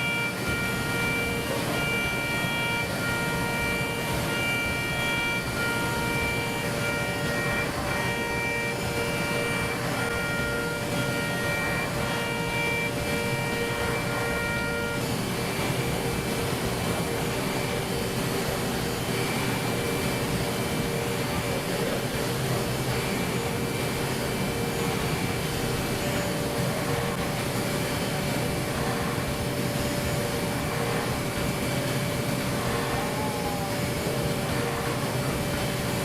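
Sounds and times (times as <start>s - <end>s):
rushing cutting noise: 0.0s - 36.0s
spindle whine: 0.0s - 36.0s.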